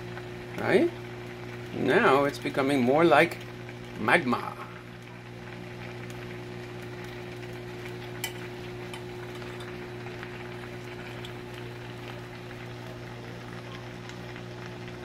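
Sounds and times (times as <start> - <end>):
candy sizzling and popping: 0.0 - 15.0
microwave oven humming: 0.0 - 15.0.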